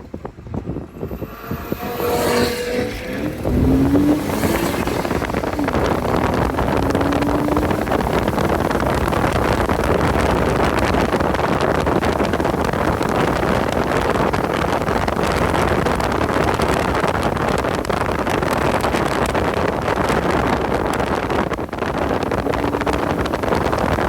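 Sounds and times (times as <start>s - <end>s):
race car engine: 0.0s - 24.0s
road noise: 0.0s - 24.0s
wind noise on microphone: 0.0s - 24.0s.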